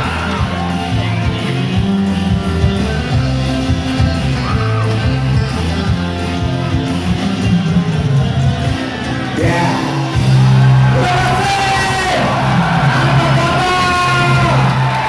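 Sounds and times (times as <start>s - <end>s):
live rock band with electric guitars: 0.0s - 15.0s.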